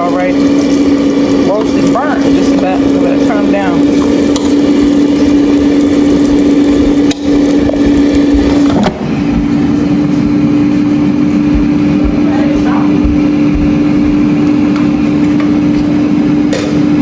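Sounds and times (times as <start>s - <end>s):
air fryer fan hum: 0.0s - 17.0s.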